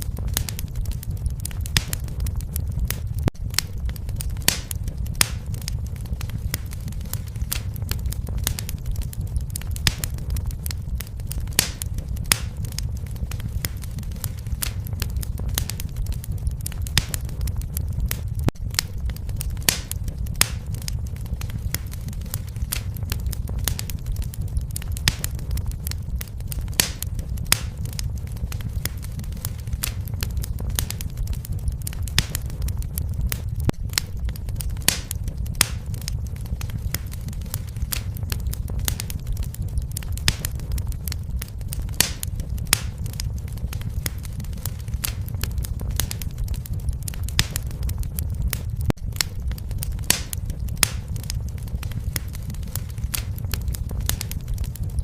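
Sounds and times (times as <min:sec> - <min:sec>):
fire crackling and popping: 0:00.0 - 0:55.0
fire rumbling: 0:00.0 - 0:55.0.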